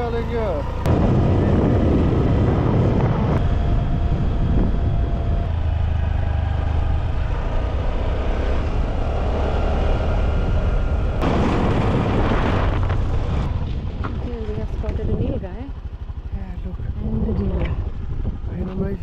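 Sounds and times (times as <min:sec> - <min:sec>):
scooter engine running: 0:00.0 - 0:11.2, 0:12.2 - 0:19.0
wind and road noise: 0:00.0 - 0:19.0.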